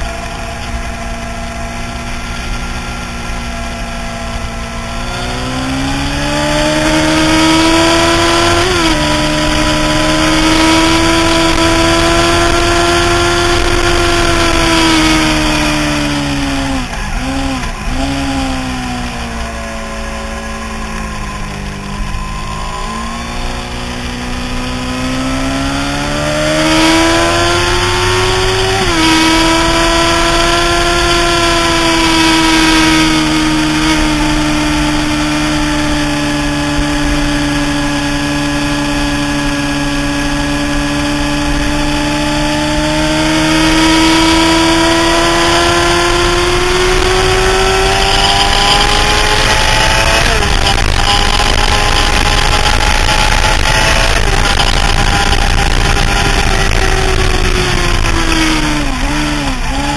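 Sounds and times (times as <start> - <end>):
motorcycle engine revving: 0.0 - 59.9
wind rush: 0.0 - 59.9.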